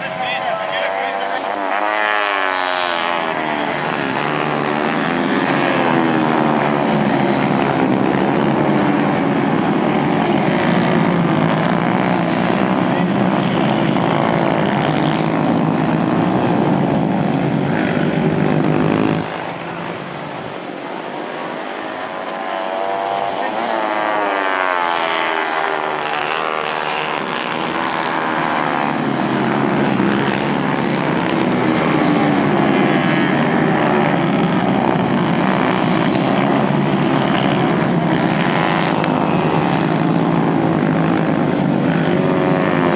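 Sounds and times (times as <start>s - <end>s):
racing motorcycles revving: 0.0s - 42.9s.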